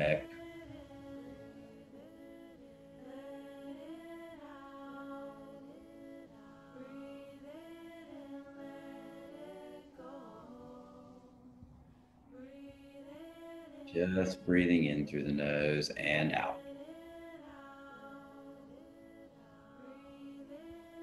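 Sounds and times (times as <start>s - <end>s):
chant-like singing voices: 0.0s - 21.0s.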